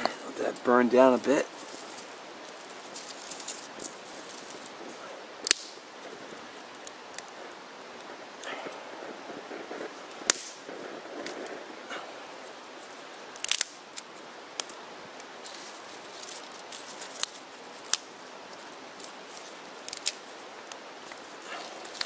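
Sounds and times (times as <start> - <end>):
stove hiss: 0.0 - 22.0
wood fire crackling and popping: 0.0 - 22.0.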